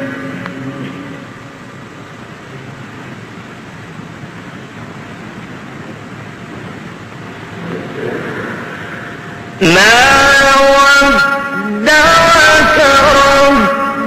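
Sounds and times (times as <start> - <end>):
room noise hiss: 0.0 - 14.0.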